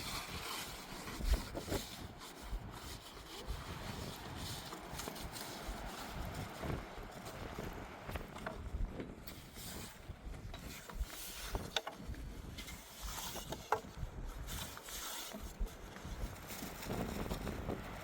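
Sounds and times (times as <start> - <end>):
gusting wind: 0.0 - 18.0.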